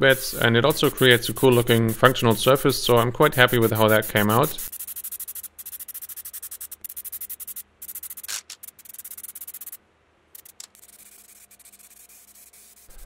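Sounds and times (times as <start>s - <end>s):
rubbing strokes on a board: 0.1s - 9.8s, 10.8s - 13.0s.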